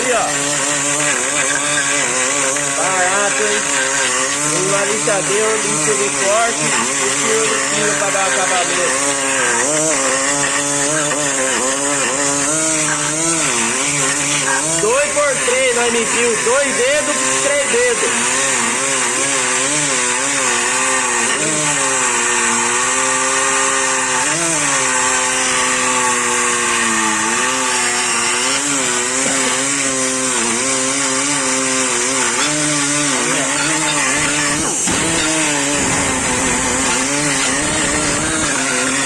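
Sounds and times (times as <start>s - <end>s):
angle grinder cutting metal: 0.0s - 39.0s.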